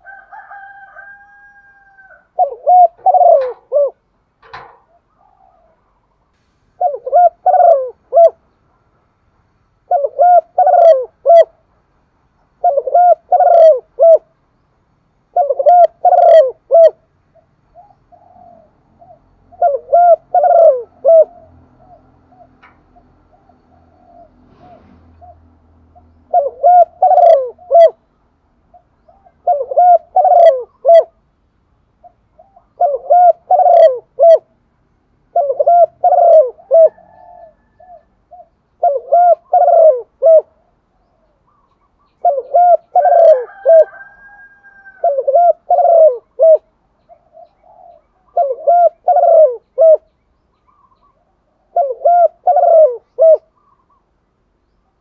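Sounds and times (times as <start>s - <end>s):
dove cooing: 0.0s - 6.2s, 6.8s - 8.4s, 9.9s - 11.6s, 12.6s - 14.3s, 15.3s - 28.1s, 28.7s - 31.2s, 32.0s - 34.6s, 35.3s - 50.1s, 50.7s - 54.1s.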